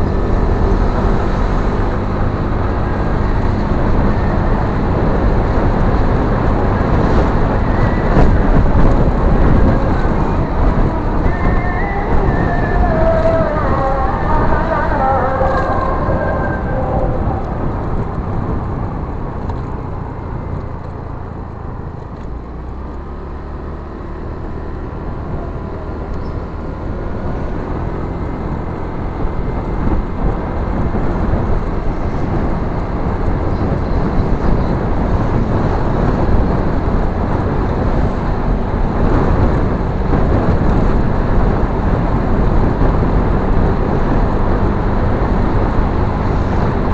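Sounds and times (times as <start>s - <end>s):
wind rush: 0.0s - 22.7s, 23.4s - 46.9s
motorbike engine low hum: 0.0s - 46.9s
road noise: 0.0s - 46.9s.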